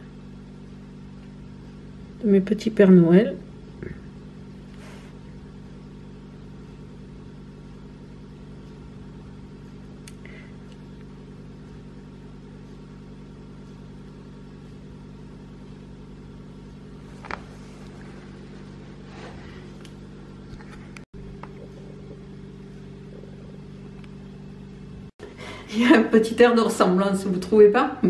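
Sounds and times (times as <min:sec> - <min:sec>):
low motor hum: 0:00.0 - 0:28.0.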